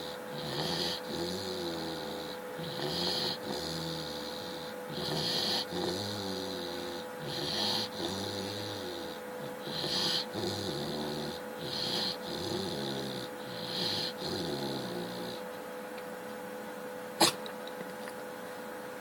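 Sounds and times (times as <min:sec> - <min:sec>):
dog snoring: 0:00.0 - 0:15.5.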